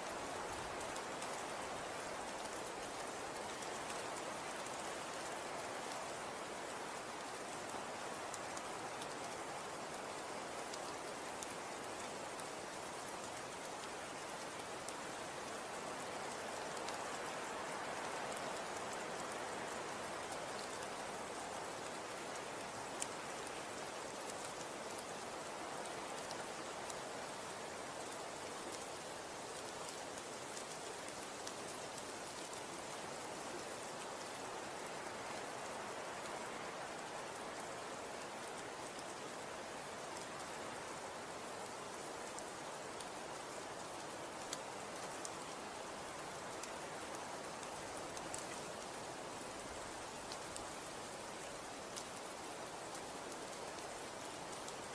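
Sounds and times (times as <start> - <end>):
light ticks: 0.0 - 54.9
snow falling hiss: 0.0 - 54.9.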